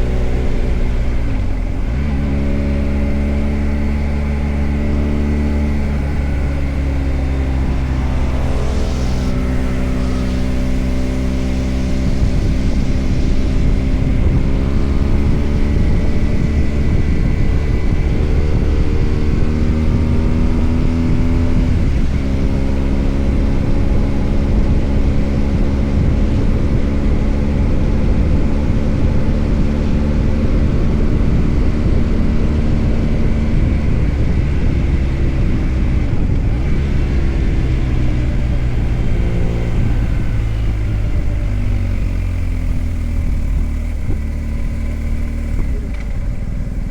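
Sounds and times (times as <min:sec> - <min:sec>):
motorcycle engine running: 0:00.0 - 0:46.9
road rumble: 0:00.0 - 0:46.9
wind: 0:00.0 - 0:46.9.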